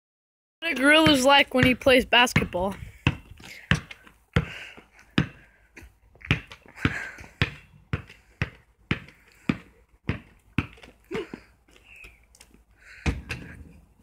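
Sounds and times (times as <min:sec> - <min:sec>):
basketball bouncing on pavement: 0:00.6 - 0:11.5, 0:12.8 - 0:13.8.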